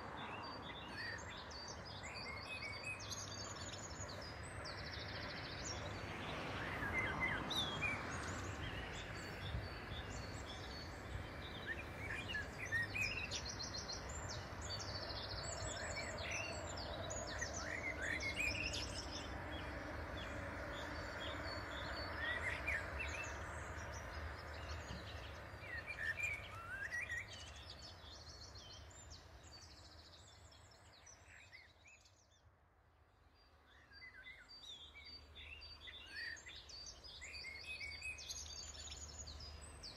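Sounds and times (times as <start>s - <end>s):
small birds chirping: 0.0s - 32.4s, 33.2s - 39.9s.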